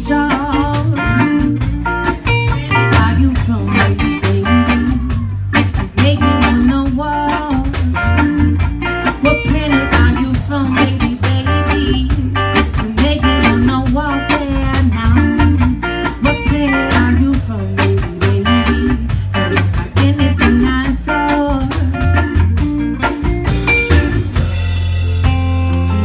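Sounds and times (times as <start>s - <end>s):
drum kit: 0.0s - 26.0s
electric bass line: 0.0s - 26.0s
electric guitars: 0.0s - 26.0s
keyboards: 0.0s - 26.0s.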